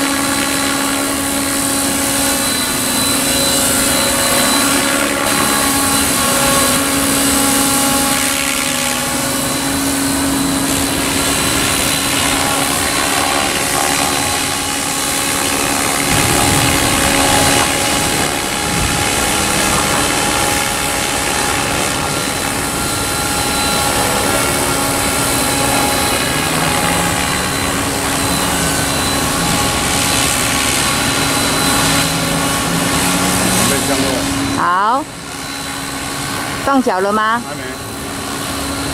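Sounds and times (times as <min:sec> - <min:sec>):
electric motor whine: 0:00.0 - 0:38.9
rotor blades whirring: 0:00.0 - 0:38.9.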